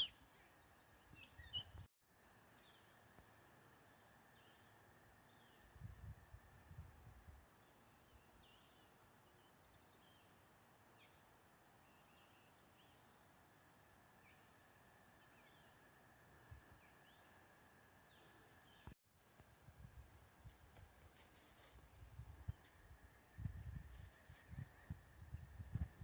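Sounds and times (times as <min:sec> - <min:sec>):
faint birdsong chirps: 0:00.0 - 0:19.7, 0:20.4 - 0:26.0.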